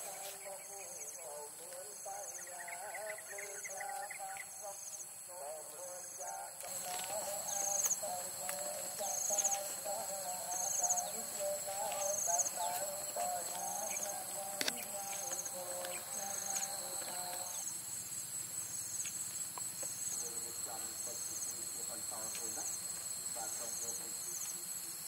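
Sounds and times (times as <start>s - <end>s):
insects chirping in pulses: 0.0s - 25.0s.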